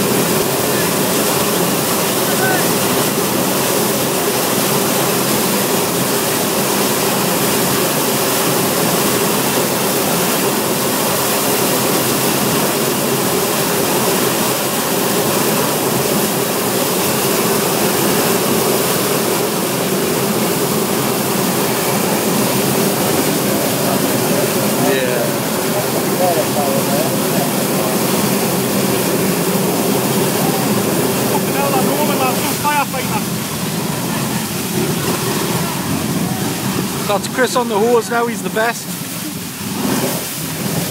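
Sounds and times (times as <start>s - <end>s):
water jetting from fire hoses: 0.0s - 40.9s.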